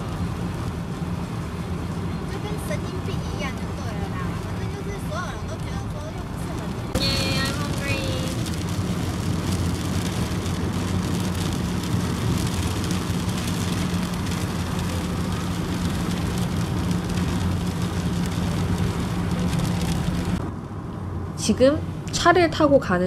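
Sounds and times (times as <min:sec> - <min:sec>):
rain hitting windscreen: 0:00.0 - 0:20.8
car road and engine noise: 0:00.0 - 0:23.0.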